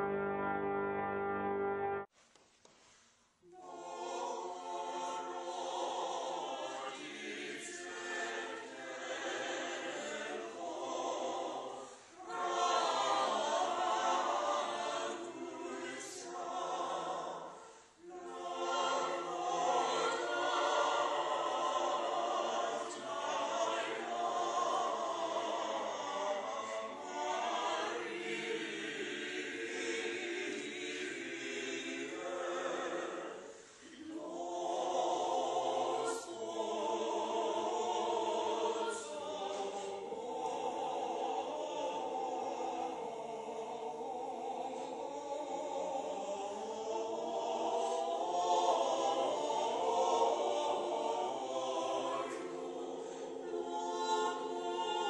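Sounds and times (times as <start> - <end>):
mixed choir singing in harmony: 0.0 - 2.0, 3.5 - 55.0.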